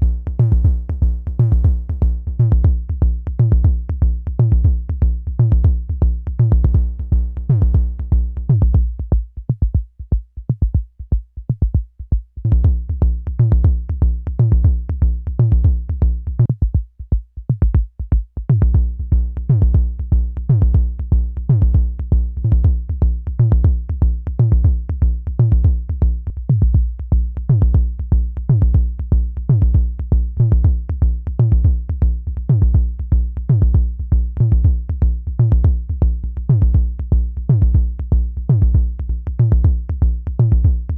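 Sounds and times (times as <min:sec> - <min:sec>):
deep synth kick drum hits: 0:00.0 - 0:40.9.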